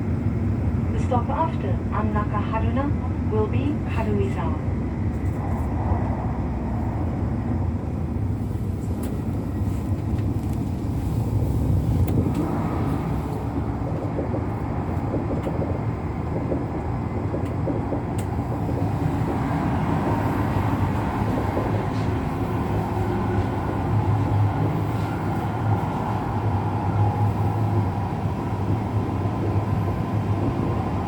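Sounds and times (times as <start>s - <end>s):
train rumbling inside cabin: 0.0s - 31.0s.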